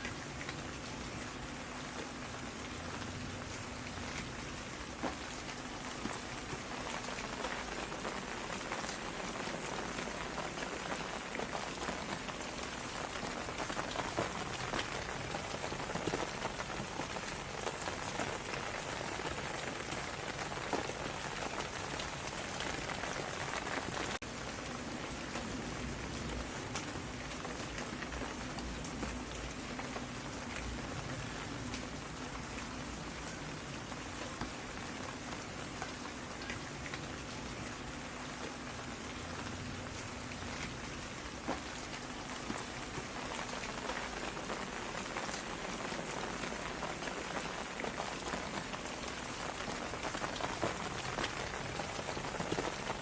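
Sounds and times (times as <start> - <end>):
rain drops ticking on surface: 0.0 - 53.0.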